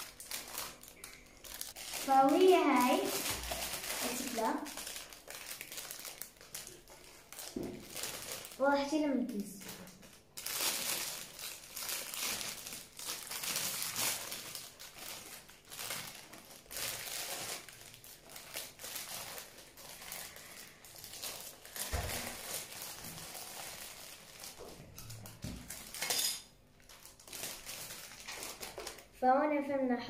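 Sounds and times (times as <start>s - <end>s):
plastic bag crinkling: 0.0s - 29.2s.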